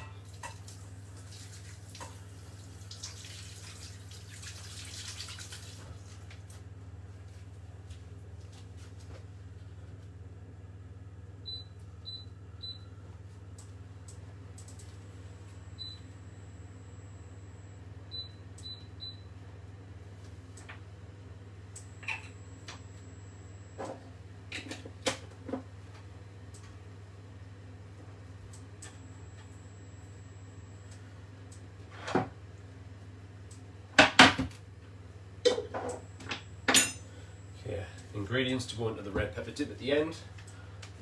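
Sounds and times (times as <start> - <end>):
steady low hum: 5.5 - 41.0.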